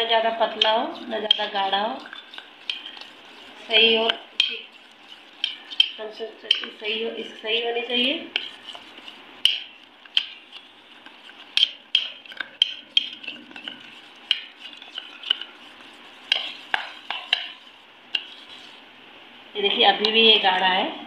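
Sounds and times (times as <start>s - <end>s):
spoon scraping batter in bowl: 0.0s - 18.9s.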